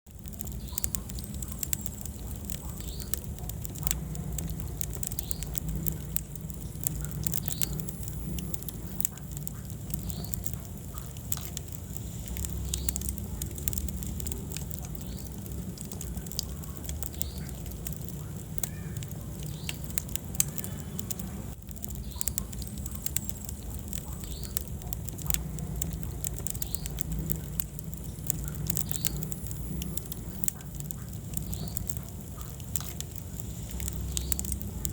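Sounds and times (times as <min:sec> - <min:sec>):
fire crackling and popping: 0:00.0 - 0:34.9
low rumble of flames: 0:00.0 - 0:34.9.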